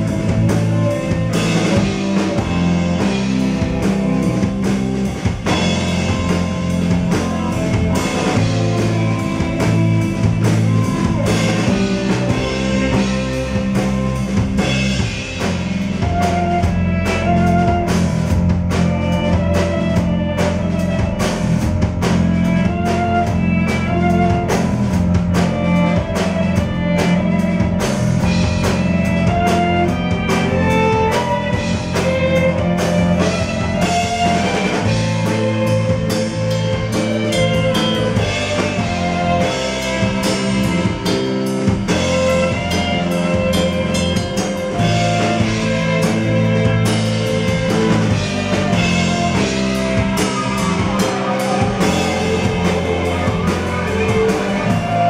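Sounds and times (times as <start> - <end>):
bass guitar: 0.0 - 55.0
drum kit beat: 0.0 - 55.0
guitar lines: 0.0 - 55.0.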